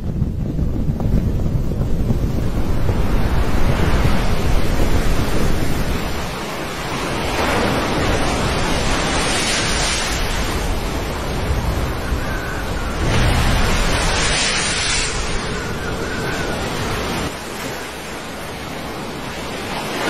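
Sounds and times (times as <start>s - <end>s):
heavy waves breaking against ship: 0.0s - 20.0s
wind buffeting microphone: 0.0s - 20.0s.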